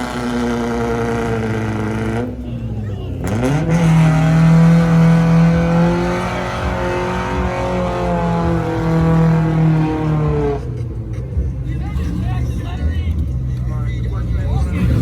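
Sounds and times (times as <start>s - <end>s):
car engine revving hard: 0.0s - 11.0s, 12.0s - 15.0s.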